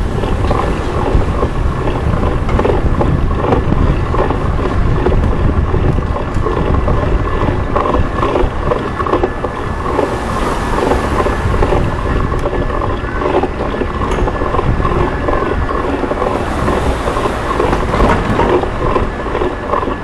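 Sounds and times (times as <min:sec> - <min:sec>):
street noise: 0:00.0 - 0:20.0
wind buffeting microphone: 0:00.0 - 0:20.0.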